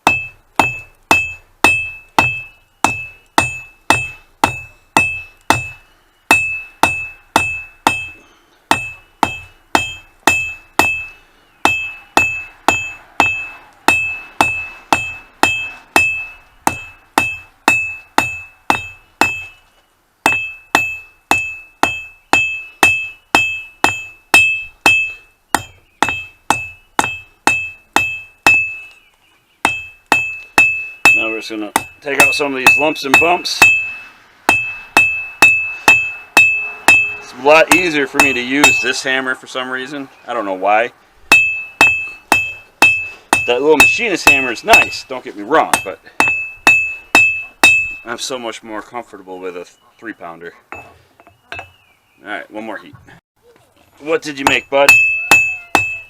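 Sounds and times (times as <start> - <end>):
hammer striking steel on anvil: 0.0 - 19.6, 20.2 - 29.0, 29.6 - 39.1, 41.3 - 48.1, 54.2 - 56.0.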